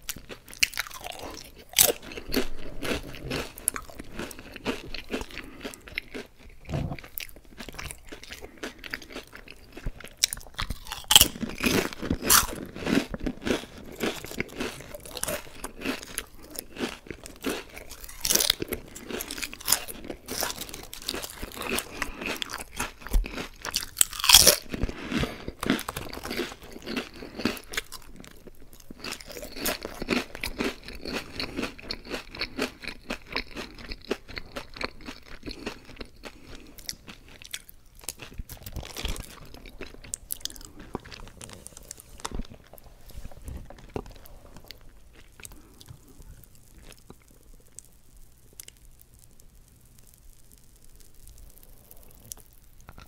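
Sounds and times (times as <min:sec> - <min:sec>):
crunching potato chips: 0:00.0 - 0:53.0.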